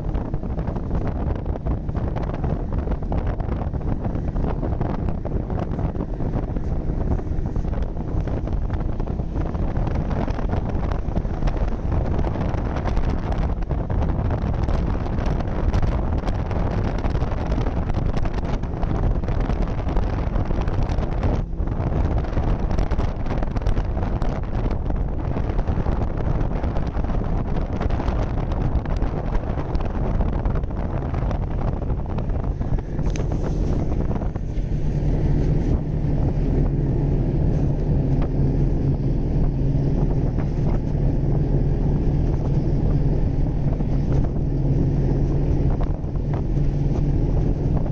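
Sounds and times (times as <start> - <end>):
snowmobile engine running: 0.0 - 47.9
wind buffeting microphone: 0.0 - 47.9.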